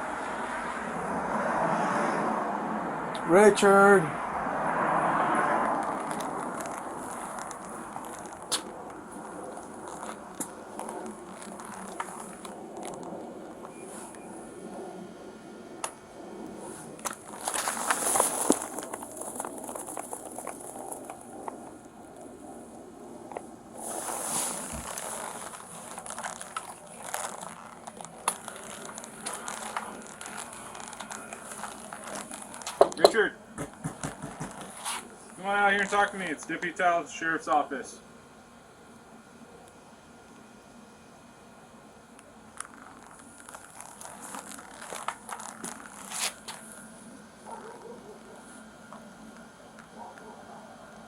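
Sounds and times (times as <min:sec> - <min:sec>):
quiet rustling and crackling: 0:05.6 - 0:37.8, 0:42.0 - 0:51.0.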